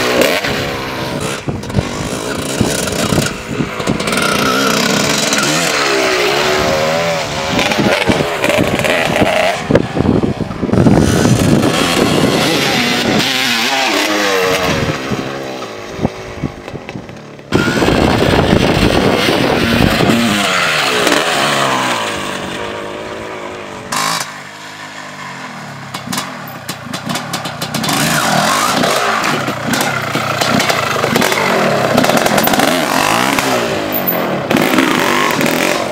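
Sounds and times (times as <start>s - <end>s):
motocross engine revving: 0.0s - 35.9s.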